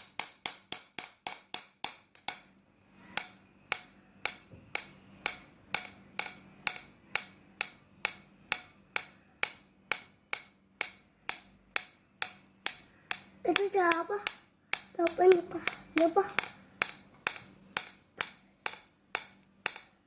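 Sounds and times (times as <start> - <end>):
regular sharp clicks: 0.0 - 20.0.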